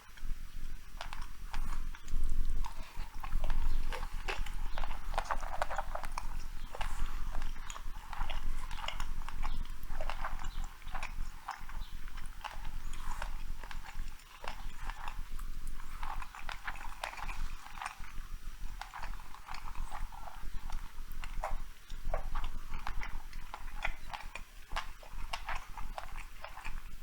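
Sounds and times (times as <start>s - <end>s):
cat chewing meat: 0.1s - 27.0s.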